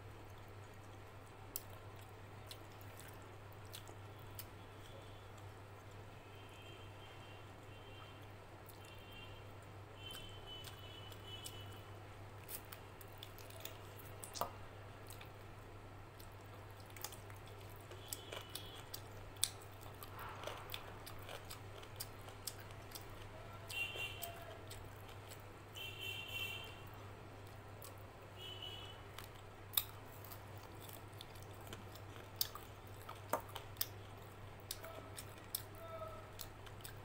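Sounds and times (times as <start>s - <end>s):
person chewing and smacking: 0.2s - 6.0s, 7.9s - 9.1s, 10.0s - 15.5s, 16.1s - 28.0s, 28.6s - 37.0s.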